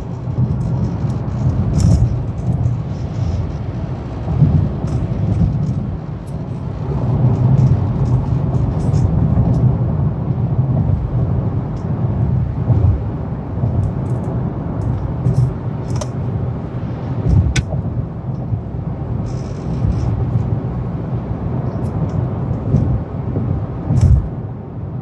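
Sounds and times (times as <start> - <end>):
car cabin road rumble: 0.0 - 25.0.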